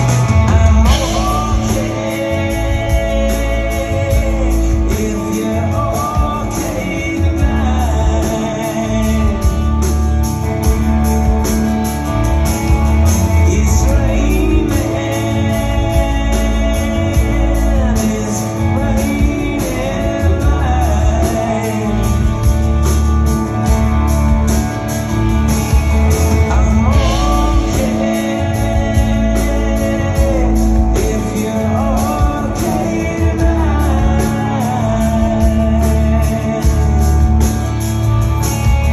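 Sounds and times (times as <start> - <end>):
live rock band: 0.0 - 38.9
person singing: 0.0 - 38.9.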